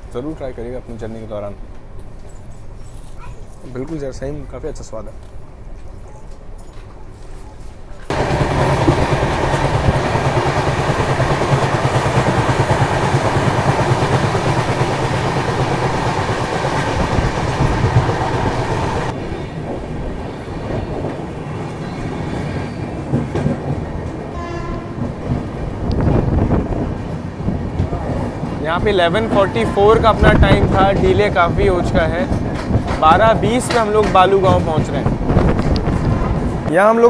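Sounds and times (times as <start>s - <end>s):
wind and train wheels rushing: 0.0s - 37.0s.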